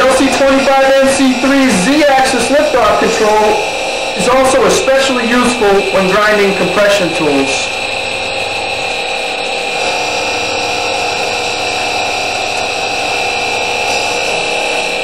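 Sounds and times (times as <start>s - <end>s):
grinding wheel whining and rasping: 0.0s - 15.0s.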